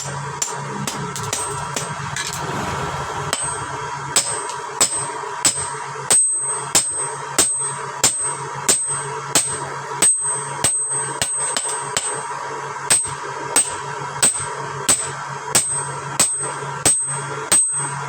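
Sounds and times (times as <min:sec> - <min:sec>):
hammer striking steel on anvil: 0:00.0 - 0:02.4, 0:03.3 - 0:18.0.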